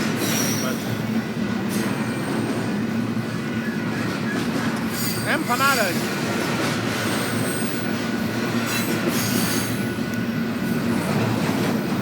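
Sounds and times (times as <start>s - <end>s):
train passing on rails: 0.0s - 12.0s.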